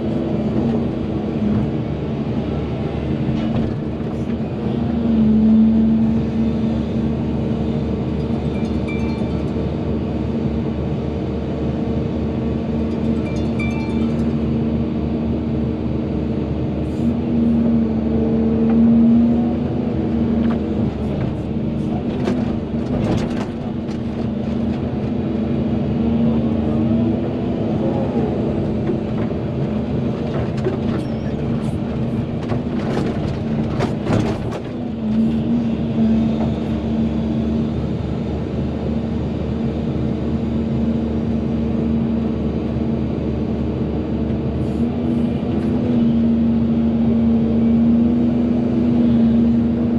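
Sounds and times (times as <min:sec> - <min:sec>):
excavator diesel engine working: 0:00.0 - 0:49.9.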